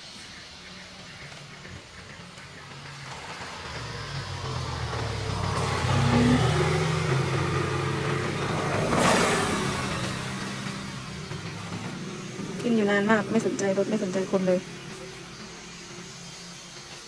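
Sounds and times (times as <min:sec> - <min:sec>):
car passing: 0:01.0 - 0:17.0.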